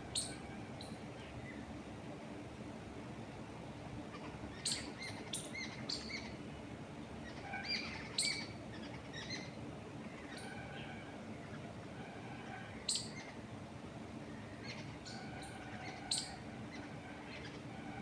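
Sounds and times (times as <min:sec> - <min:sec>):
songbirds chirping: 0:00.0 - 0:18.0
wind through trees: 0:00.0 - 0:18.0.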